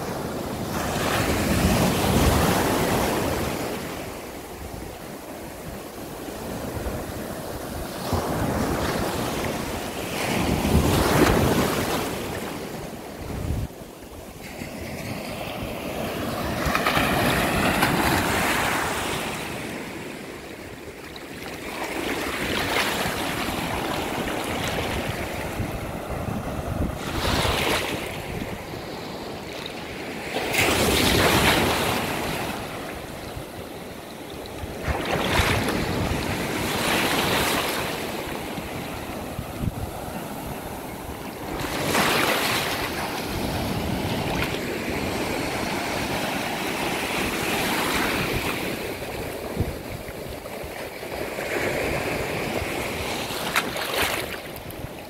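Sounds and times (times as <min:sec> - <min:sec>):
surf washing up sandy beach: 0:00.0 - 0:55.0.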